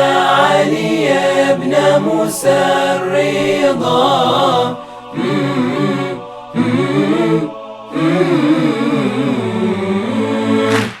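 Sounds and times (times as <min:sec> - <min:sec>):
voices chanting a praise song: 0:00.0 - 0:11.0.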